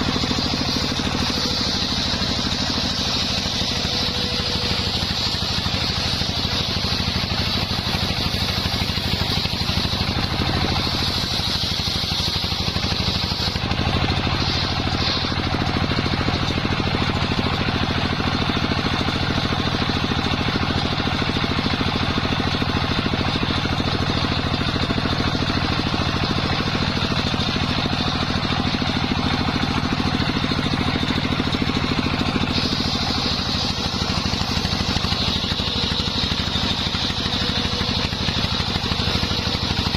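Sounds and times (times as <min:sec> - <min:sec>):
engine drone: 0:00.0 - 0:39.9
saw blade whining: 0:00.0 - 0:39.9.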